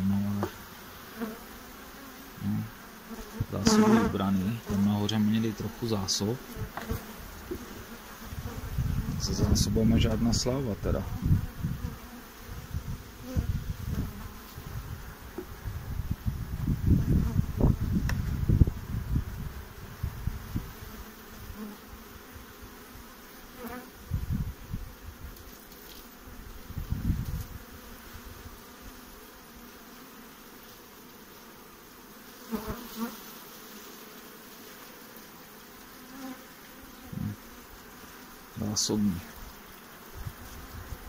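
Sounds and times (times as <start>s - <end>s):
bees buzzing: 0.0s - 41.0s.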